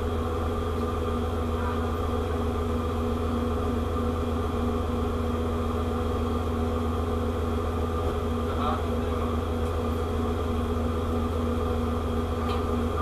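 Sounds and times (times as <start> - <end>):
ship machinery humming: 0.0 - 13.0.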